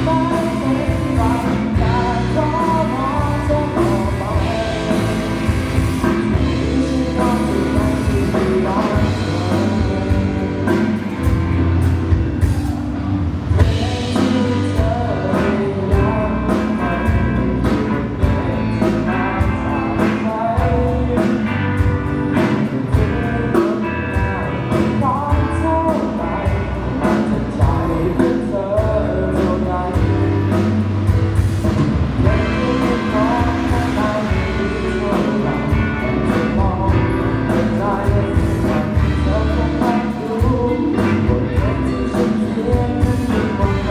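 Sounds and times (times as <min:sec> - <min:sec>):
pop-rock song with vocals: 0:00.0 - 0:43.9.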